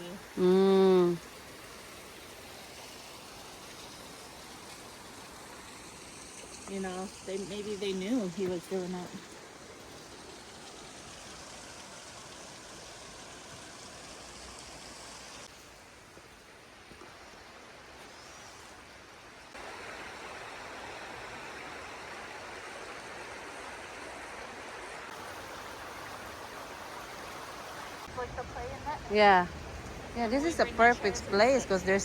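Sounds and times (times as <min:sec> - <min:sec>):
river water rushing: 0:00.8 - 0:32.0.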